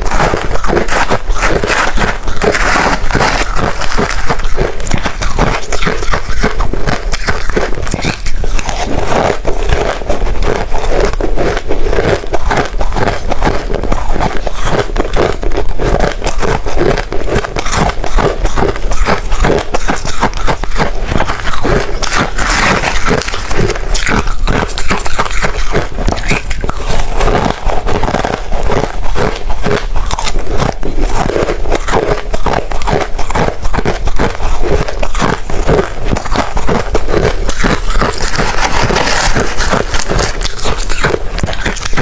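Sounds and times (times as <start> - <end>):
ice being chewed: 0.0 - 42.0.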